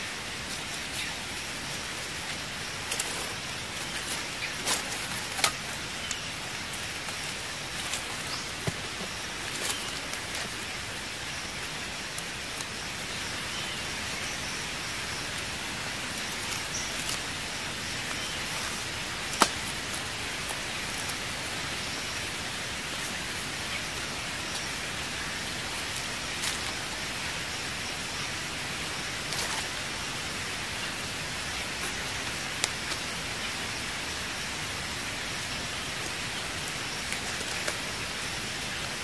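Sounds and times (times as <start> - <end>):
outdoor hiss: 0.0 - 39.0.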